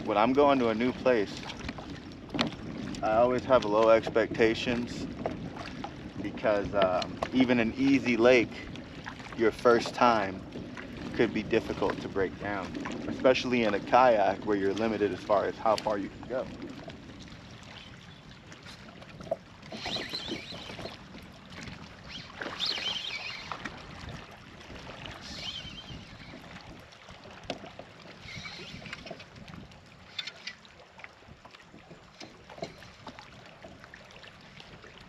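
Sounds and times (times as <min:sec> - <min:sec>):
water lapping against kayak hull: 0:00.0 - 0:35.0.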